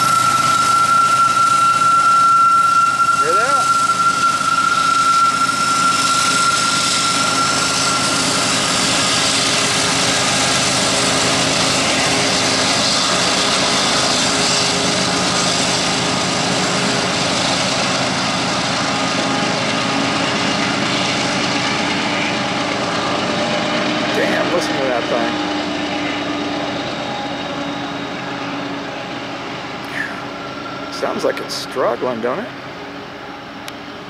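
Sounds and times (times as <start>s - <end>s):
diesel locomotives working hard: 0.0s - 34.0s
high steady squeal: 0.0s - 34.0s
wheels rumbling on rail: 0.0s - 34.0s.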